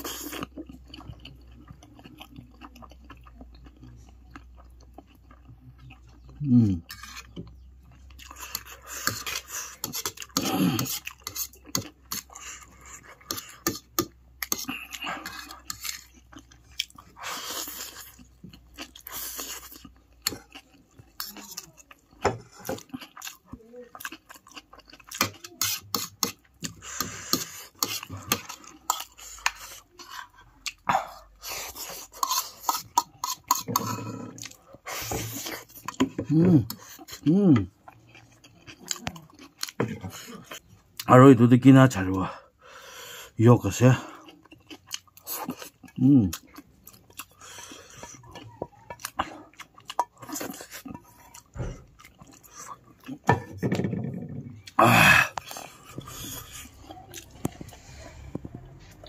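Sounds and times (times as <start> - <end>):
chewing and slurping: 0.0 - 41.1, 42.6 - 59.0.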